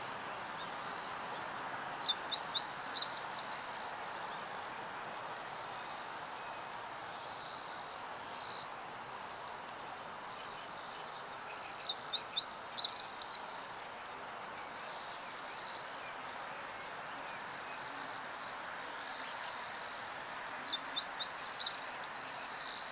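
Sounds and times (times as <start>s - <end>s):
songbird singing: 0.0s - 22.9s
steady background hiss: 0.0s - 22.9s.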